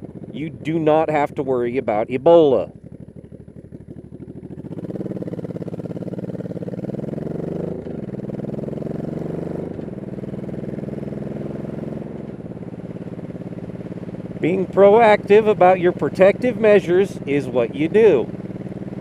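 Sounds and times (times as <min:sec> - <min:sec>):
motorcycle engine shifting gears: 0:00.0 - 0:01.0, 0:02.3 - 0:19.0.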